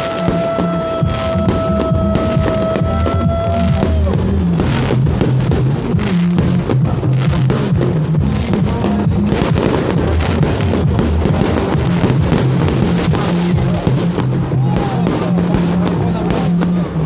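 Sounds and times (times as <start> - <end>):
fireworks crackling and banging: 0.0 - 17.0
loud music with bass: 0.0 - 17.0.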